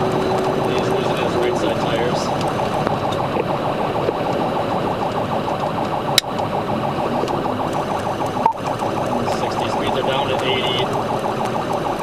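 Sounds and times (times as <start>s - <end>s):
car engine and road noise: 0.0s - 12.0s
police siren yelping: 0.0s - 12.0s.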